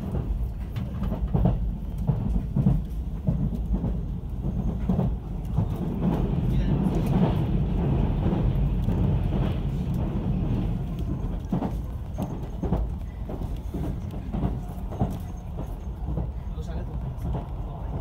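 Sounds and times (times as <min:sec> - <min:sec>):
train rumbling over a bridge: 0:00.0 - 0:18.0
train wheels clicking over rail joints: 0:00.0 - 0:18.0.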